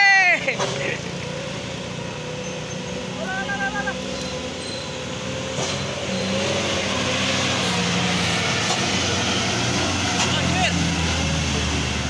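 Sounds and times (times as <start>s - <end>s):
diesel truck engine labouring: 0.0s - 12.0s.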